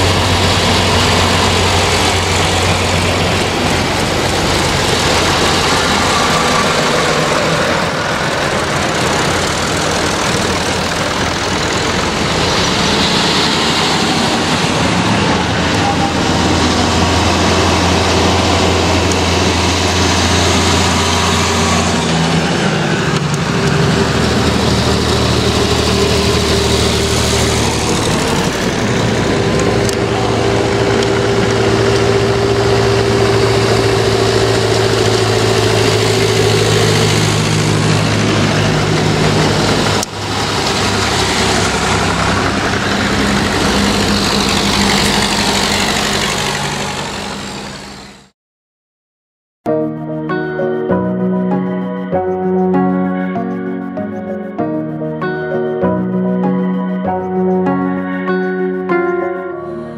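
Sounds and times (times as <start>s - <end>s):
tractor engines driving past: 0.0s - 48.3s.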